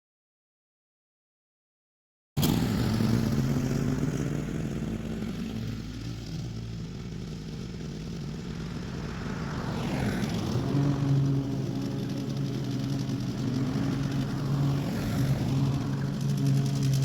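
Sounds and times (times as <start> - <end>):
lawn mower engine running: 2.4 - 17.0.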